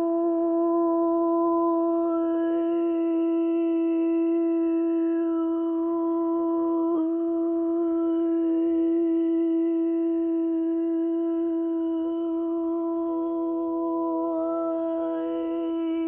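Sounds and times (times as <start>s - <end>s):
person humming a steady note: 0.0s - 16.0s.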